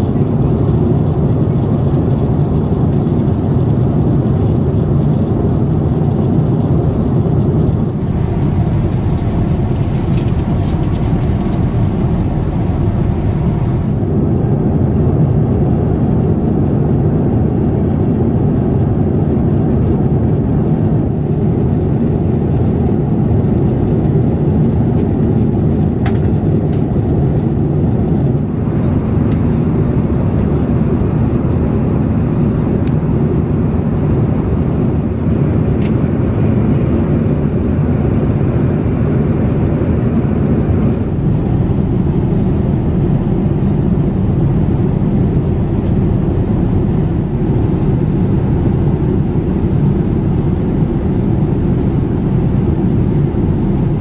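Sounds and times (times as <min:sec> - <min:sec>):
airliner cabin noise: 0:00.0 - 0:54.0.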